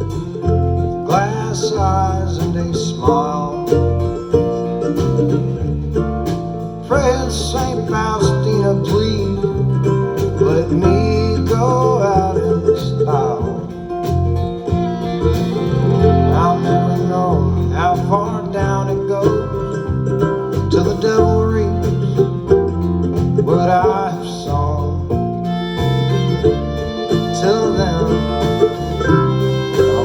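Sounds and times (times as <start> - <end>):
banjo: 0.0 - 30.0
bass line: 0.0 - 30.0
plucked guitar: 0.0 - 30.0.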